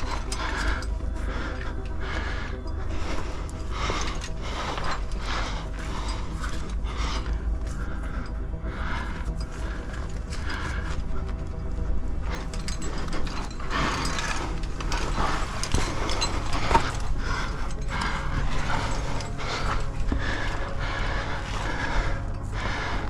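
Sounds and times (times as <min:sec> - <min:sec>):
metal gear clinking: 0:00.0 - 0:10.9, 0:11.6 - 0:23.0.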